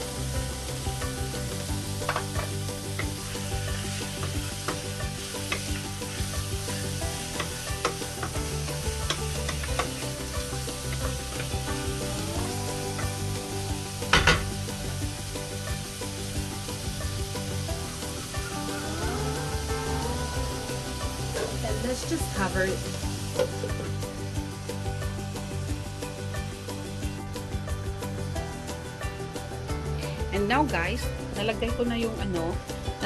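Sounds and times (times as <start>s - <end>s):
chicken sizzling in a pan: 0.0s - 28.8s.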